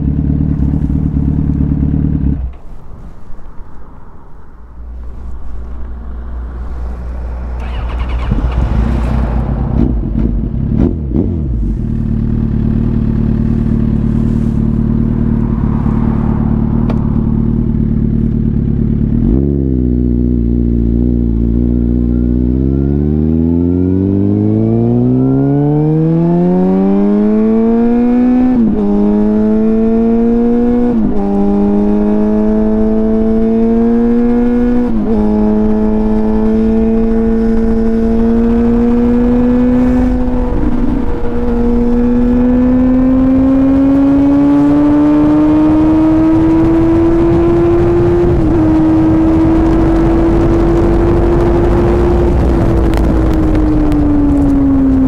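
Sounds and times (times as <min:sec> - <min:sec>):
motorcycle engine accelerating: 0:00.0 - 0:04.0, 0:04.8 - 0:55.0.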